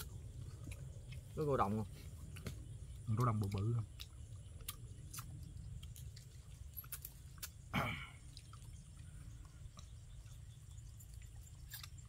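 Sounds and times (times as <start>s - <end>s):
eating clicks and wet smacks: 0.0s - 1.4s, 2.2s - 12.0s.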